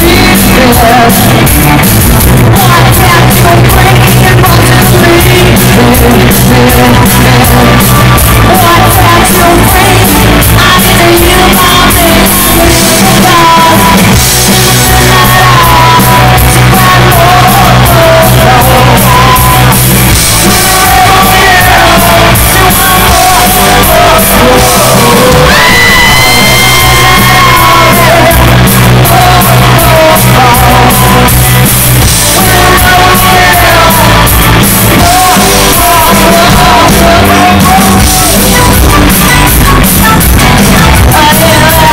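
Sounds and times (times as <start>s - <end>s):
woman singing into microphone: 0.0s - 1.4s, 2.5s - 19.7s, 20.4s - 31.3s, 32.3s - 34.3s, 35.0s - 38.4s, 41.0s - 41.9s
drums: 0.0s - 41.9s
electric guitar: 0.0s - 41.9s.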